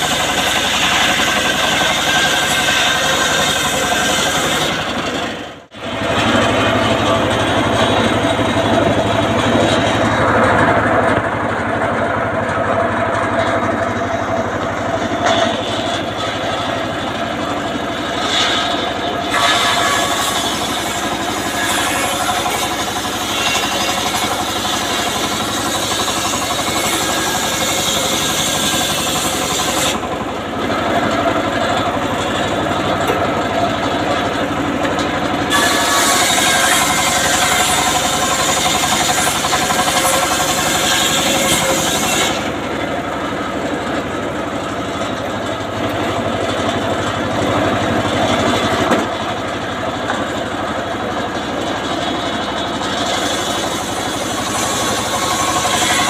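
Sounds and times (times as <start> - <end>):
circular saw ripping wood: 0.0 - 11.3, 14.3 - 49.4, 51.5 - 56.0
engine drone: 0.0 - 56.0.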